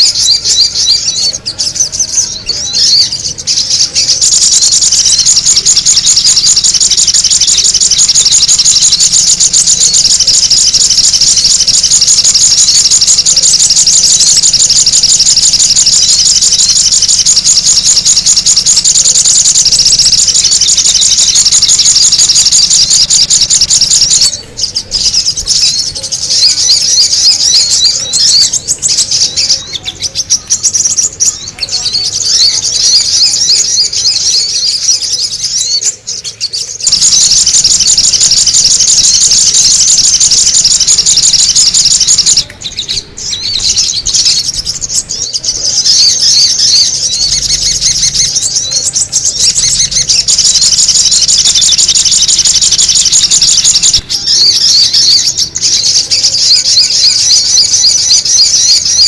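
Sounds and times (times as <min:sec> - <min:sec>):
birds chirping rapidly: 0:00.0 - 0:59.0.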